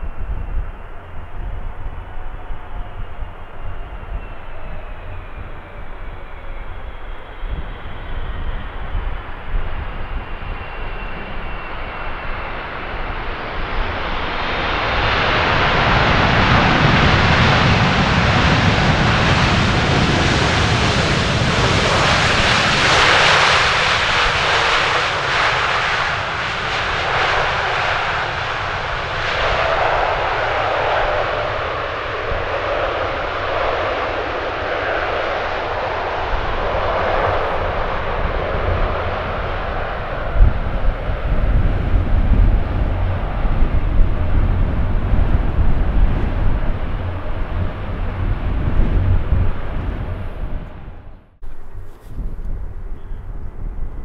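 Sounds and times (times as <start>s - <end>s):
jet airliner engine noise: 0.0s - 54.0s.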